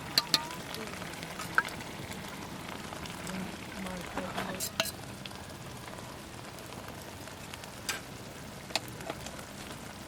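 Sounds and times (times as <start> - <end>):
sharp frying pops: 0.0 - 5.4, 6.6 - 10.0
food sizzling in a pan: 0.0 - 10.0.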